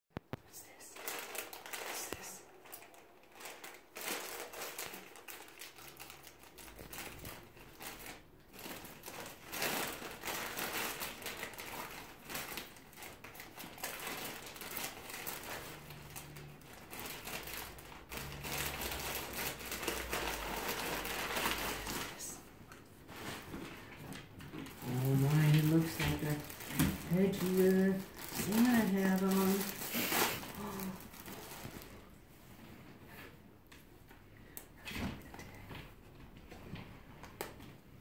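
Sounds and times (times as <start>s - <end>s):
plastic bag crinkling: 0.7s - 32.2s.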